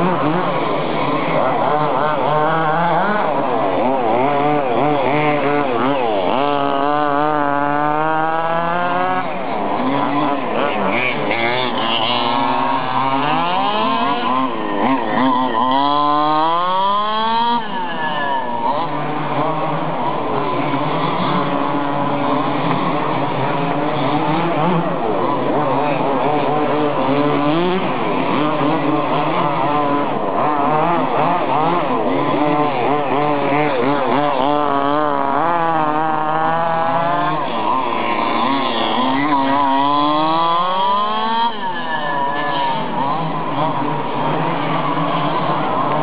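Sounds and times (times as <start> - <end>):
small two-stroke engines revving: 0.0 - 46.0.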